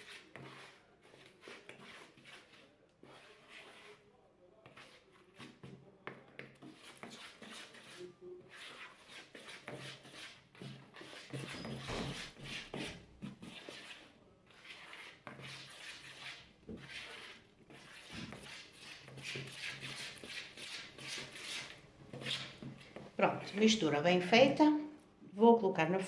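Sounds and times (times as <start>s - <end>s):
spatula scraping batter in bowl: 0.0s - 24.6s.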